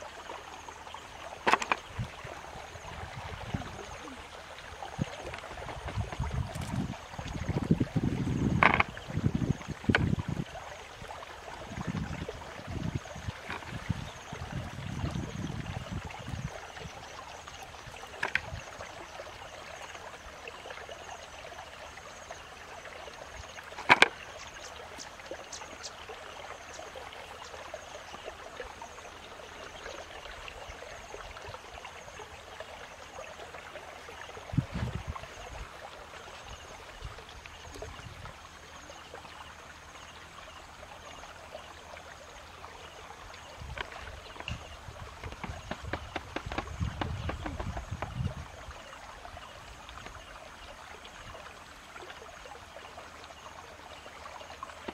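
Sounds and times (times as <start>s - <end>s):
steady outdoor hiss: 0.0s - 54.9s.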